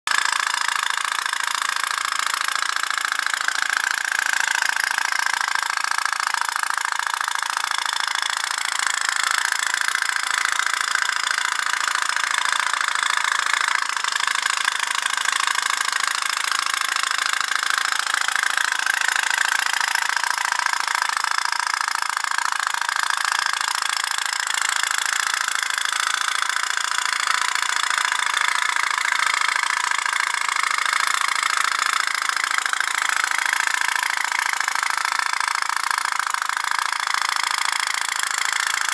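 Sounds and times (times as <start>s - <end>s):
toy steam boat engine popping: 0.1s - 38.9s.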